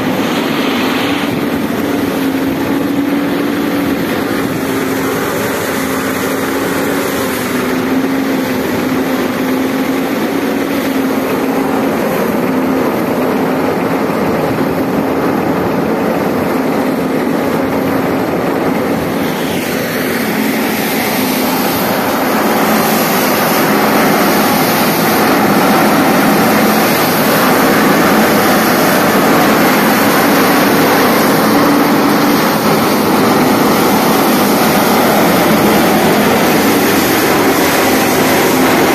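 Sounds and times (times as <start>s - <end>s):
chopped straw rushing through pipe: 0.0s - 38.9s
engine hum: 0.0s - 38.9s.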